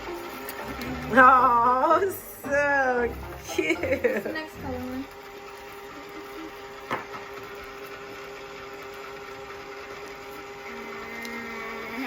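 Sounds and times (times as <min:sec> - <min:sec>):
small motor whirring: 0:00.0 - 0:12.0.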